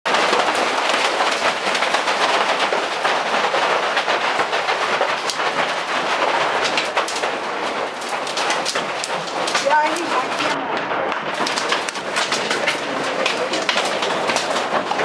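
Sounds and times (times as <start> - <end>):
hailstones pelting wooden cabin: 0.1 - 15.0
sharp hail cracks: 0.1 - 15.0.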